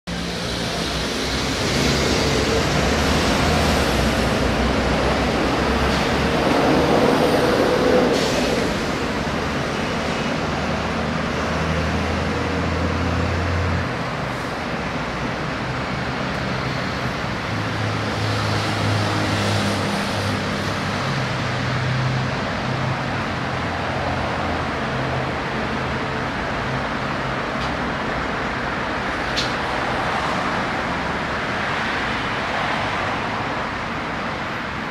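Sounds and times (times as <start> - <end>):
cars passing: 0.1 - 34.9.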